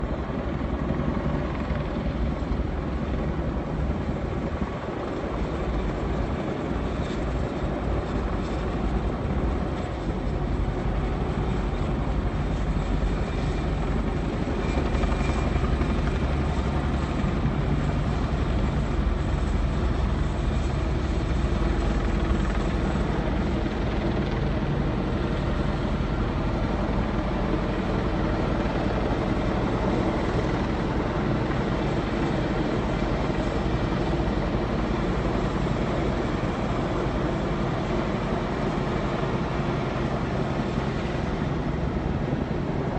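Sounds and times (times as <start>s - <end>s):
helicopter rotor roar: 0.0s - 42.9s.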